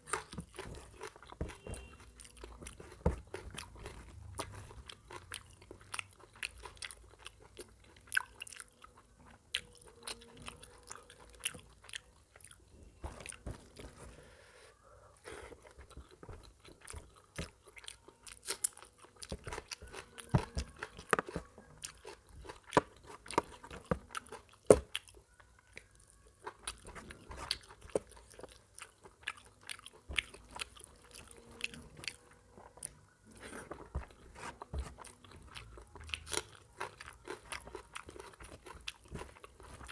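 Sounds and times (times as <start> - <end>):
wet chewing and mouth smacking: 0.0 - 13.9, 15.5 - 39.9.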